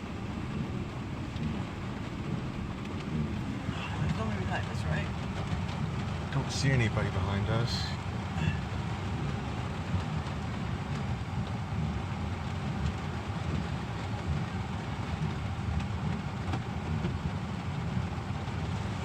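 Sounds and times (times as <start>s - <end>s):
car driving rumble from inside: 0.0s - 19.0s
heavy rain on a car: 0.0s - 19.0s.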